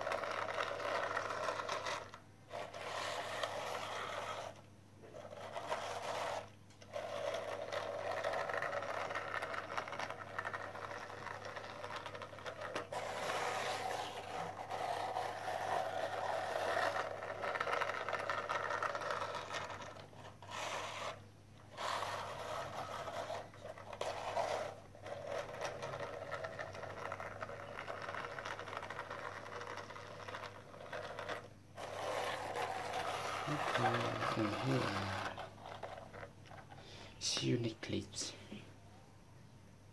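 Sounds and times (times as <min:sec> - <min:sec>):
toy truck motor whirring: 0:00.0 - 0:36.7.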